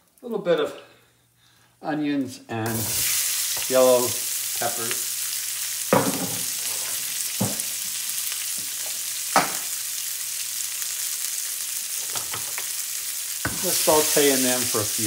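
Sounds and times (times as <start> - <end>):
vegetables sizzling in a skillet: 2.6 - 15.0.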